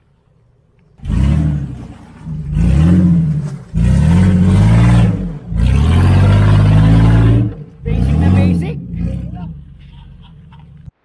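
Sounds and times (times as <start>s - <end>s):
engine revving hard: 1.0s - 10.9s.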